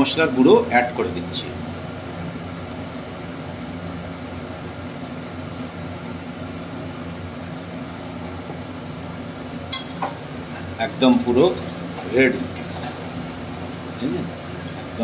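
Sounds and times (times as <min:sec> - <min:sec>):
fan motor hum with hiss: 0:00.0 - 0:15.0.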